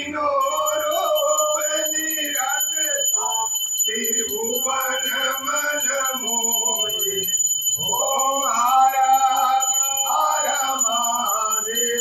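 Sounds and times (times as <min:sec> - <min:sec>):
high-pitched ringing tone: 0:00.0 - 0:12.0
men singing a hymn: 0:00.0 - 0:12.0.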